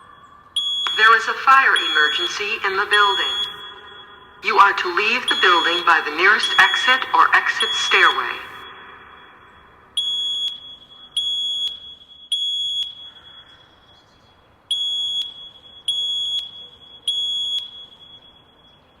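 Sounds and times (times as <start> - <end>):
fire alarm beeps: 0.0 - 19.0.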